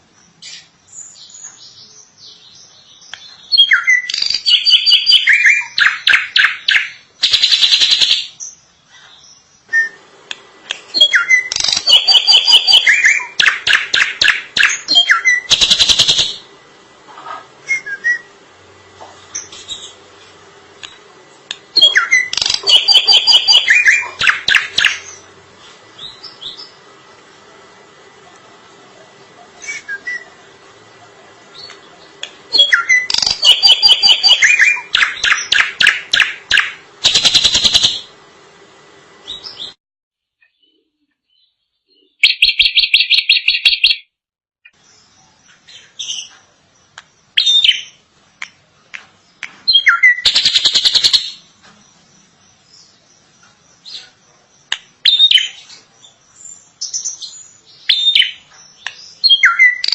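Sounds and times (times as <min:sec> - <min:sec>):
bird singing varied song: 0:00.0 - 0:10.0, 0:10.8 - 0:16.5, 0:21.6 - 0:27.3, 0:29.2 - 0:38.1, 0:39.2 - 0:39.8, 0:40.4 - 0:59.9.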